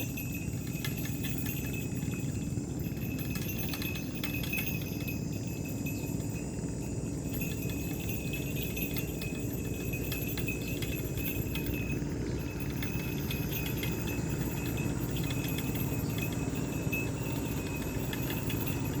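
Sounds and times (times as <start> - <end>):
light jingling: 0.0 - 19.0.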